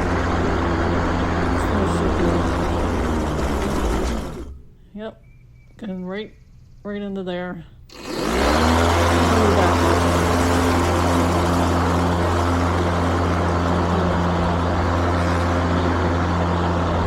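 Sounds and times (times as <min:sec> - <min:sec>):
electric lawnmower humming: 0:00.0 - 0:04.7, 0:07.9 - 0:17.0.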